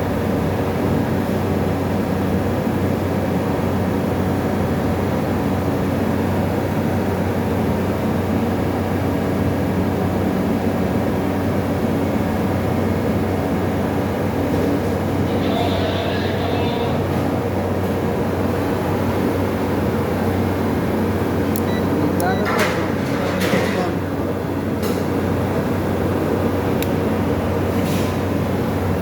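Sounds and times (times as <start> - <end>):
refrigerator compressor humming: 0.0 - 29.0.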